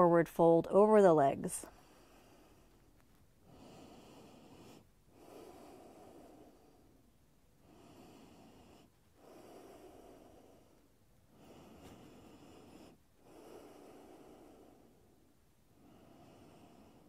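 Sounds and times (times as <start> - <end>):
woman breathing slowly: 1.6 - 17.0.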